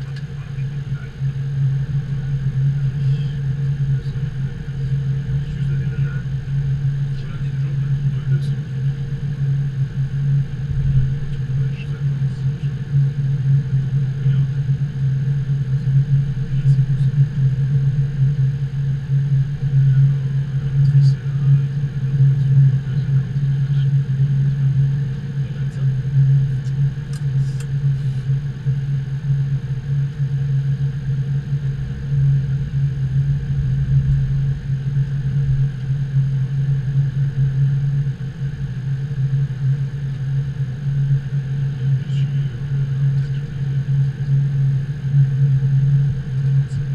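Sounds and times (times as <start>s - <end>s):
aircraft cockpit low hum: 0.0s - 46.9s
high whine: 0.0s - 46.9s.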